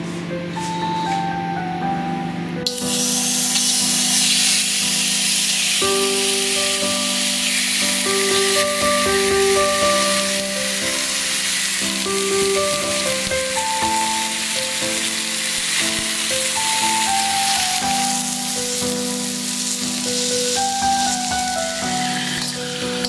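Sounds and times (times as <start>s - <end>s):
slow melodic background music: 0.0s - 23.0s
chicken sizzling in a wok: 2.7s - 23.0s.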